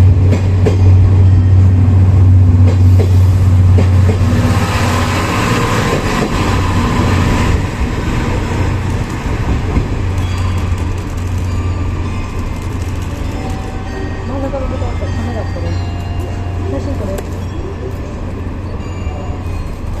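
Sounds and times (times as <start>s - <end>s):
locomotive low hum: 0.0s - 20.0s
train wheels rumbling: 0.0s - 20.0s.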